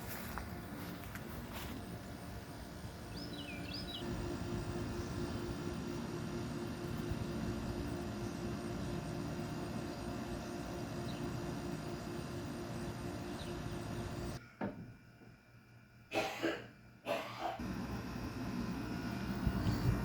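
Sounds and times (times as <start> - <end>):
window air conditioner humming: 0.0 - 20.0.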